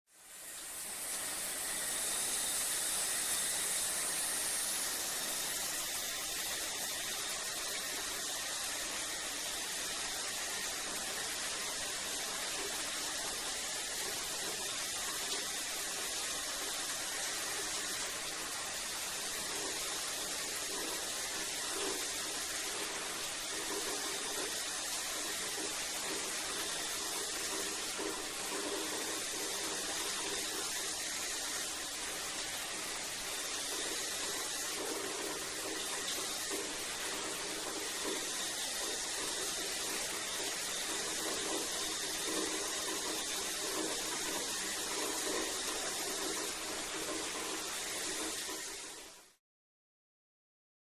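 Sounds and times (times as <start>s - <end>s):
shower spray hissing: 0.1s - 49.4s.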